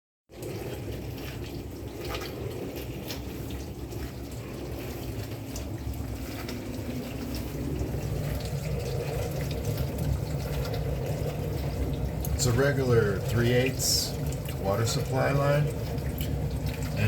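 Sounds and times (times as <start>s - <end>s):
low hum: 0.3s - 17.0s.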